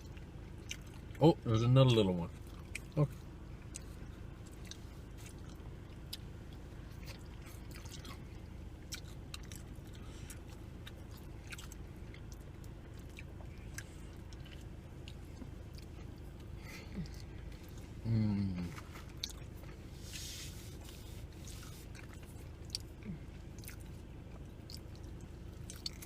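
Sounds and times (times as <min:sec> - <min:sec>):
chewing food: 0:00.0 - 0:01.2, 0:02.3 - 0:17.9, 0:18.6 - 0:19.9, 0:20.7 - 0:26.0
low hum: 0:00.0 - 0:26.0.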